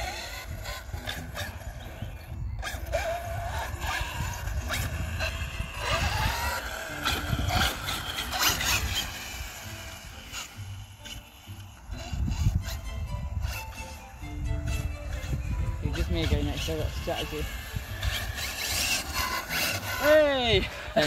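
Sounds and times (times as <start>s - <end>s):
rc car motors whining: 0.0s - 21.0s
wind rumble on microphone: 0.0s - 21.0s.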